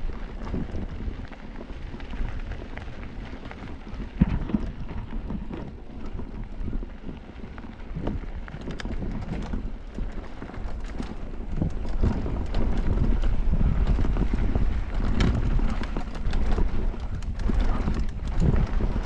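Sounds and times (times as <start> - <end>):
bike rattling on dirt trail: 0.0 - 19.0
wind buffeting microphone: 0.0 - 19.0.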